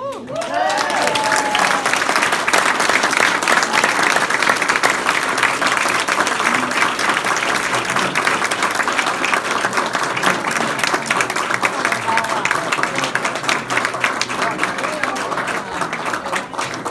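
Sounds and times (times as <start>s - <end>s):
roomful of people applauding: 0.0s - 16.9s.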